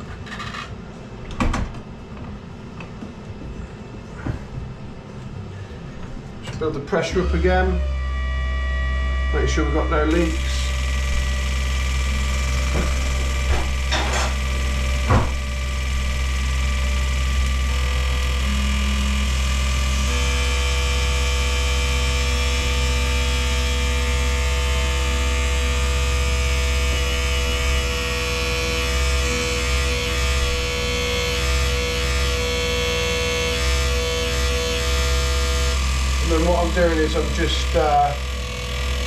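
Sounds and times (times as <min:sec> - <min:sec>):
steady machine whine: 0:00.0 - 0:39.0
test machine pump humming: 0:05.0 - 0:39.0.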